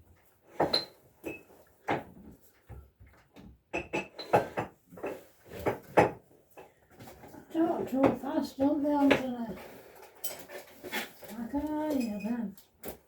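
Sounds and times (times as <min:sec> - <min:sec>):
household knocks and clatters: 0:00.0 - 0:13.0.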